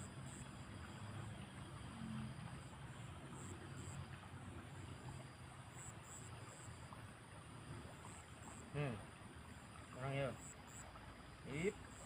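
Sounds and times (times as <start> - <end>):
flowing water hiss: 0.0 - 12.0
insects chirping: 0.0 - 12.0.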